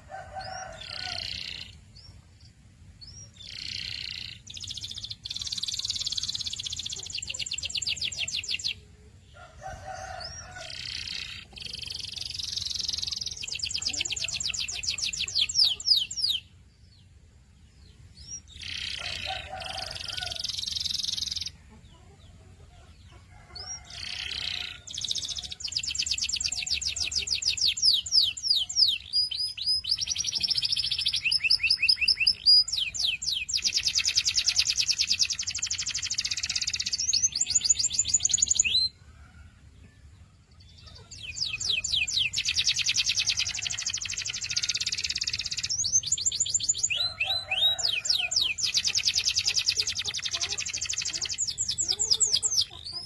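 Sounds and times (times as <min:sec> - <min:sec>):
canary singing trills: 0:00.0 - 0:39.0, 0:40.5 - 0:53.0.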